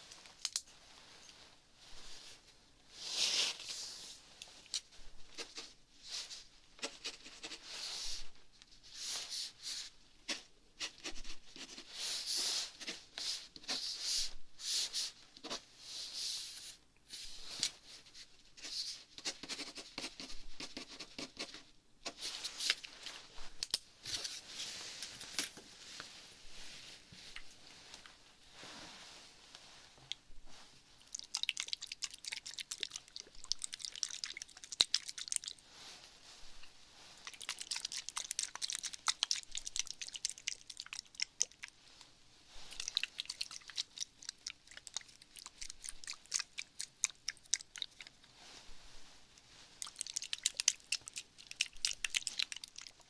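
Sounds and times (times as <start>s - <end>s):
close crinkling and scratching: 3.0s - 14.2s, 17.2s - 28.3s, 29.2s - 53.0s.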